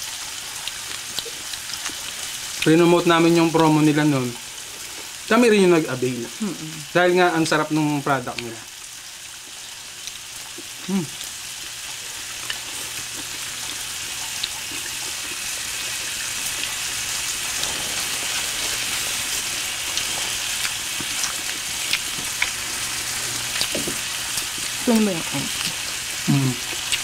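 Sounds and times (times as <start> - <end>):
meat sizzling on grill pan: 0.0 - 27.0.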